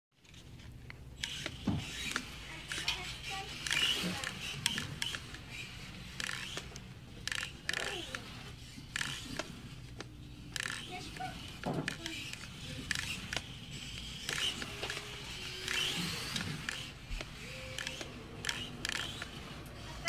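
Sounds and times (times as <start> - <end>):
toy car motor whining: 0.2 - 20.0.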